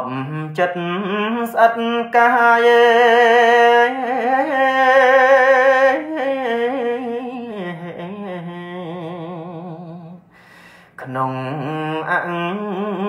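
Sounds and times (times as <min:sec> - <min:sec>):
man chanting: 0:00.0 - 0:10.2, 0:11.0 - 0:13.0.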